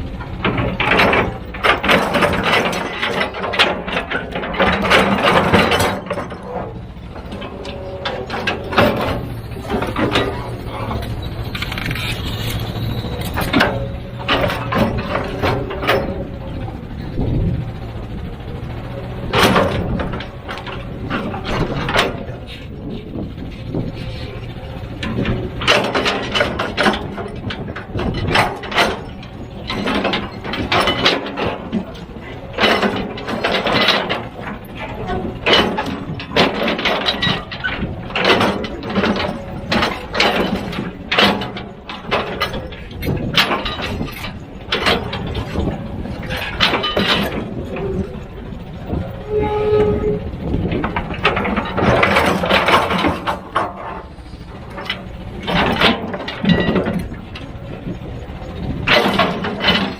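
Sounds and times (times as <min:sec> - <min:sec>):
sharp knocks and clanks: 0:00.0 - 0:17.6, 0:18.4 - 0:59.9
heavy machine engine rumble: 0:00.0 - 0:59.9.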